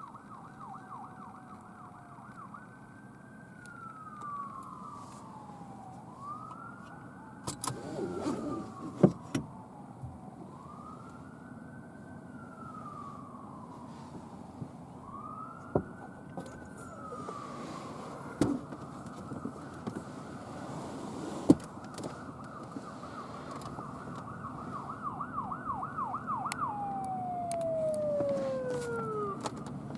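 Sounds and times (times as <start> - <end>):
ambulance siren wailing: 0.0 - 29.9.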